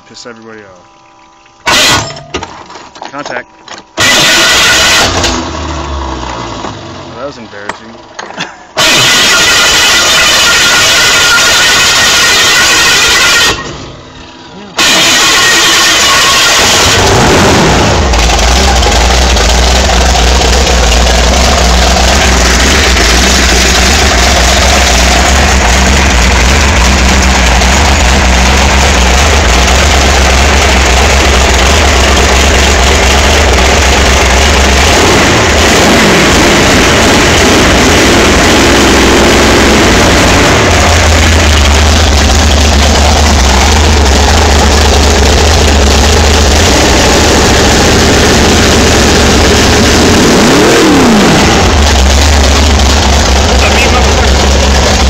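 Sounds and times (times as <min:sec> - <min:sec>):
boat engine idling and revving: 0:04.0 - 0:07.4, 0:08.8 - 0:55.0.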